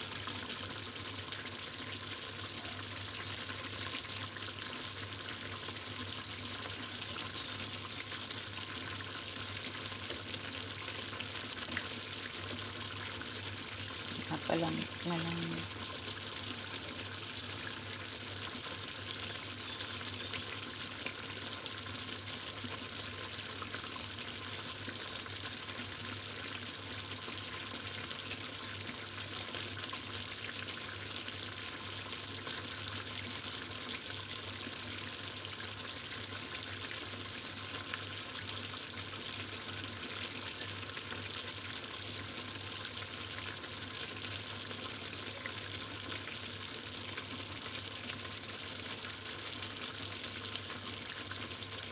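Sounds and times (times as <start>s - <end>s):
stew sizzling and bubbling: 0.0s - 51.9s.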